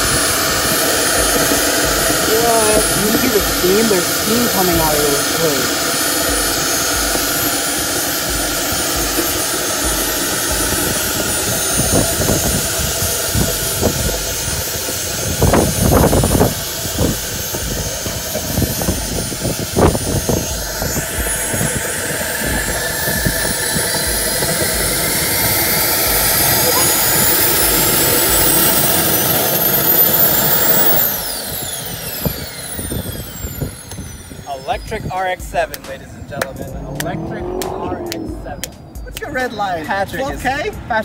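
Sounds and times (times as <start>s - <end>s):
gas turbine jet whine: 0.0s - 41.0s.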